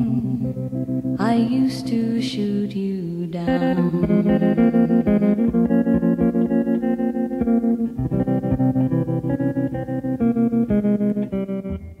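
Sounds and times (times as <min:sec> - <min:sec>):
plucked electric guitar: 0:00.0 - 0:12.0.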